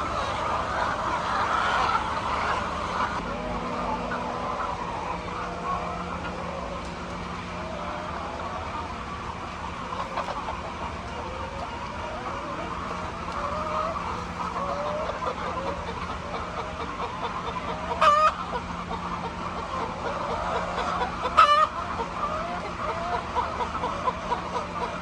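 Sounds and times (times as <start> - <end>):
chicken squawks: 0.0 - 3.2, 3.8 - 25.0
chickens clucking: 0.0 - 25.0
faint steady hum: 0.0 - 25.0.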